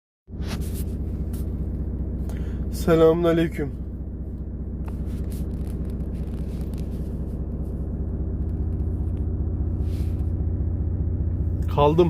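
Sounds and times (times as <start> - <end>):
diesel truck engine rumbling: 0.3 - 12.0.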